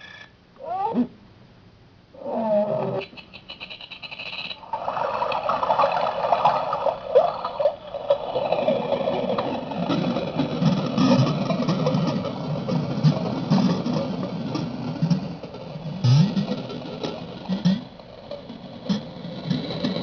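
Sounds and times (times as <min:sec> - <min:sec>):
warbling electronic drone: 0:02.2 - 0:20.0.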